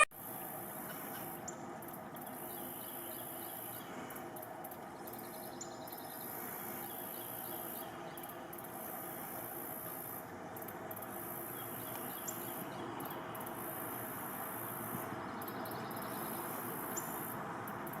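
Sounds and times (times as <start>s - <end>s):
high continuous insect buzz: 0.2s - 18.0s.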